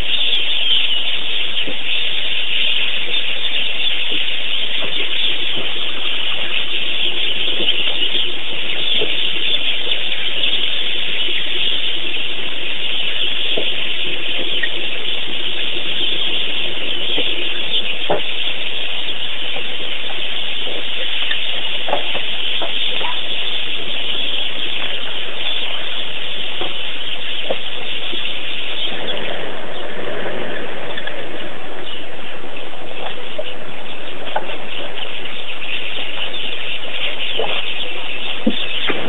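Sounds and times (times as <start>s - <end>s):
steady loud hiss: 0.0s - 39.0s.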